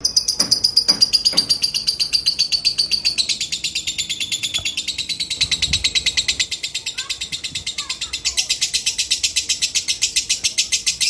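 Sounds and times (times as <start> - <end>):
lovebird rapid high chattering: 0.0 - 11.0.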